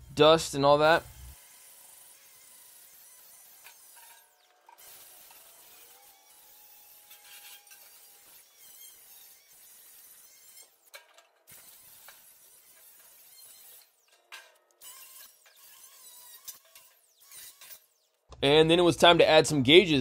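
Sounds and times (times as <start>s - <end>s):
wire wheel grinder scrubbing steel: 0.0s - 18.1s.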